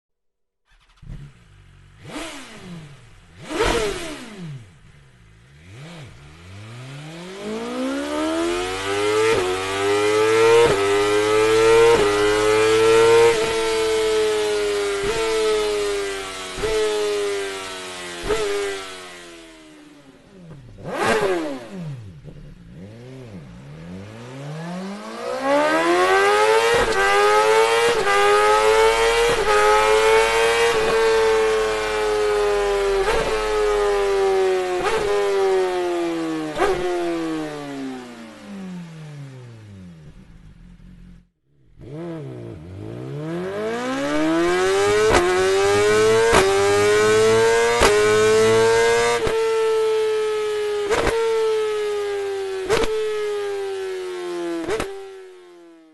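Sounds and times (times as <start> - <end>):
motorcycle engine revving: 0.7 - 55.9.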